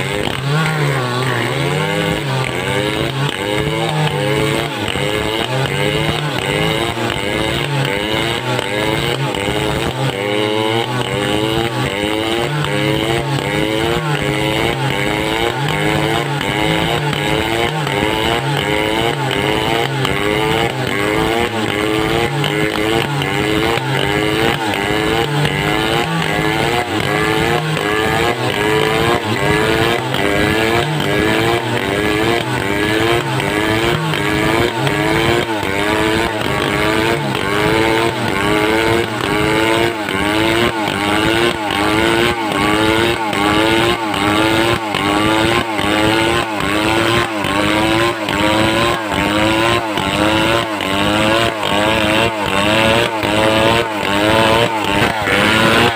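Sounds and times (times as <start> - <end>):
chainsaw cutting timber: 0.0 - 55.9.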